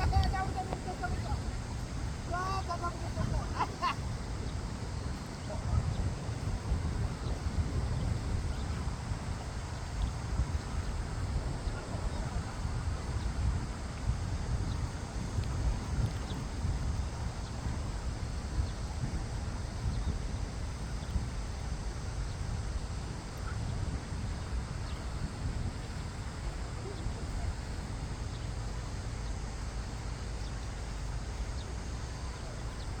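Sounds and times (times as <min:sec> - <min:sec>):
outdoor hiss: 0:00.0 - 0:33.0
wind buffeting microphone: 0:00.0 - 0:33.0.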